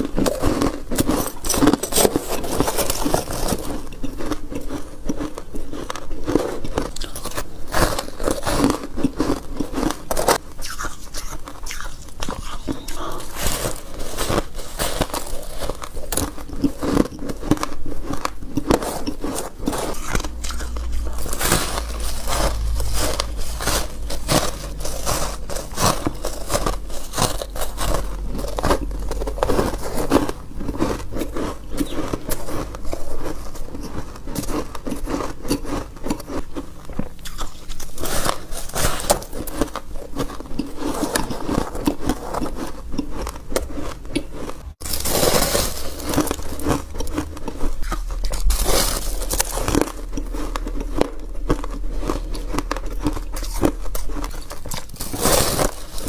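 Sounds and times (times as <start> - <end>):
person crunching ice: 0.0 - 56.0.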